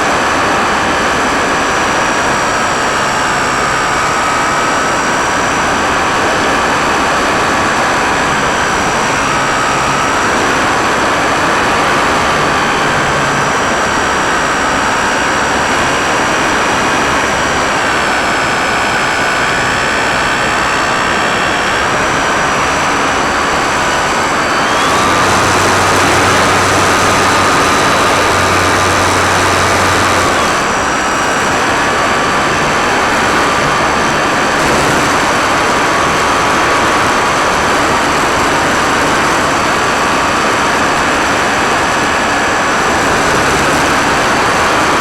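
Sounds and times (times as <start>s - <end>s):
electric motor whine: 0.0s - 45.0s.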